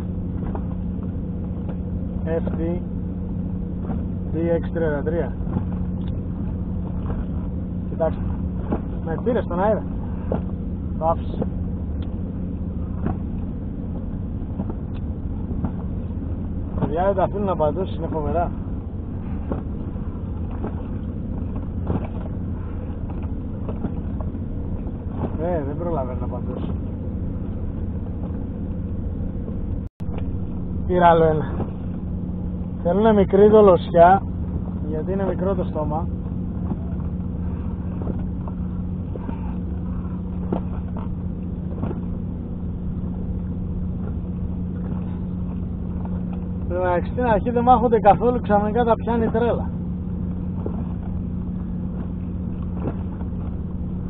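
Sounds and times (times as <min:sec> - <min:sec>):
boat engine idling: 0:00.0 - 0:54.0.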